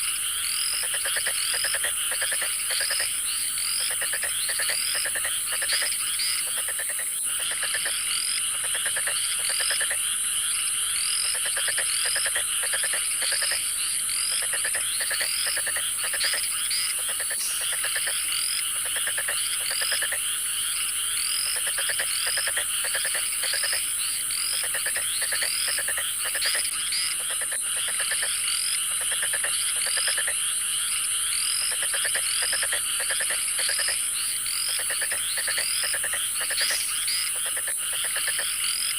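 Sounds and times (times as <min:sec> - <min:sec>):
frogs trilling: 0:00.0 - 0:38.9
high insect drone: 0:00.0 - 0:38.9.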